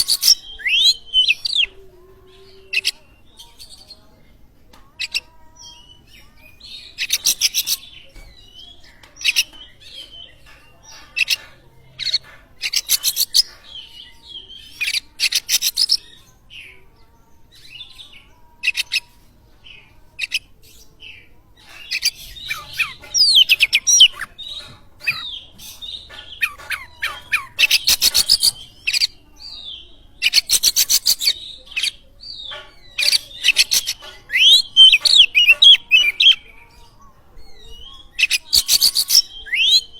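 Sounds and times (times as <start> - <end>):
bird singing rattles and warbles: 0.0 - 39.9.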